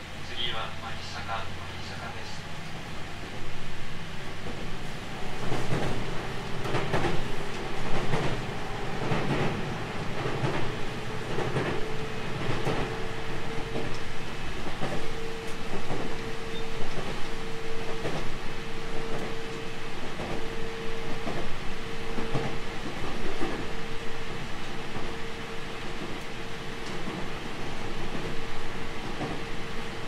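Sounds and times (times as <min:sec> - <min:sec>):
train rumble and hum: 0:00.0 - 0:30.0.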